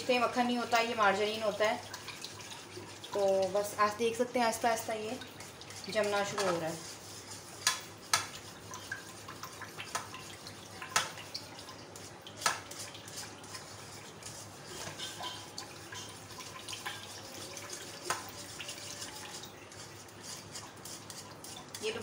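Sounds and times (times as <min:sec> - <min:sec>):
whisk clinking against pan: 0:00.0 - 0:22.0
whisk sloshing liquid: 0:00.0 - 0:22.0.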